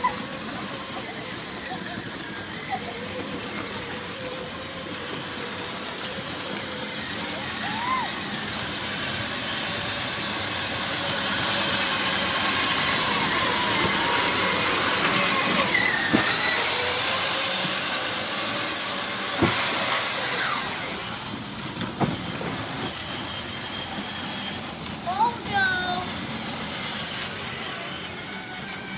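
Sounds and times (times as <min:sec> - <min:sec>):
tyres hissing on wet road: 0:00.0 - 0:28.8
vehicle engine: 0:00.0 - 0:28.9.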